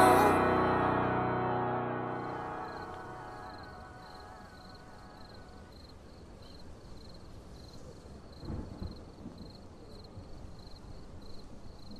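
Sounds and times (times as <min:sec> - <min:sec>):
faint background noise: 0:00.0 - 0:11.9.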